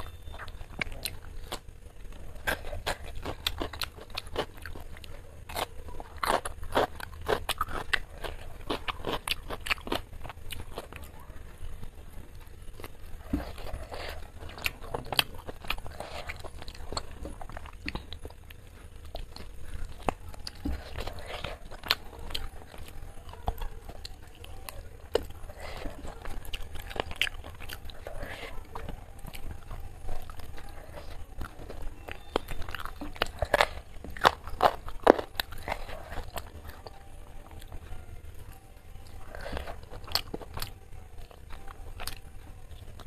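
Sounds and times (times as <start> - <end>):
crunching cucumber: 0.0 - 43.0
soft chewing and mouth sounds: 0.0 - 43.0.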